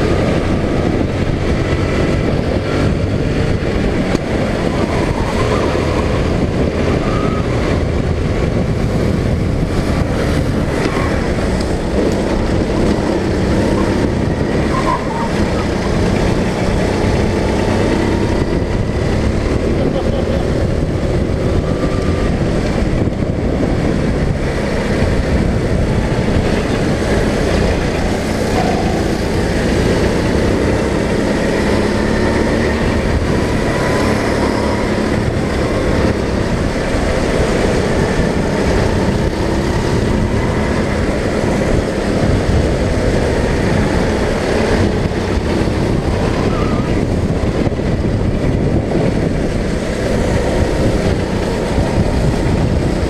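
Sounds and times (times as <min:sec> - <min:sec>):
go-kart engine running hard: 0:00.0 - 0:53.0.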